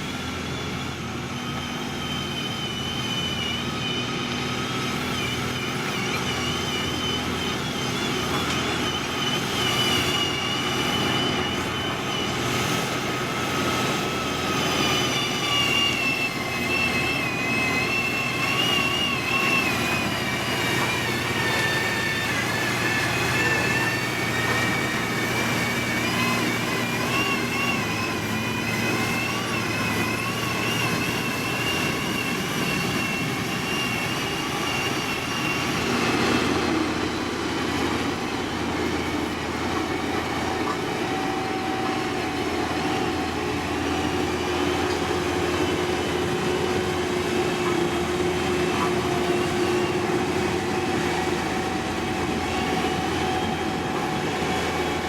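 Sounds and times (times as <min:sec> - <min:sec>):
diesel engine hum: 0:00.0 - 0:55.0
wavering high machine whine: 0:00.0 - 0:55.0.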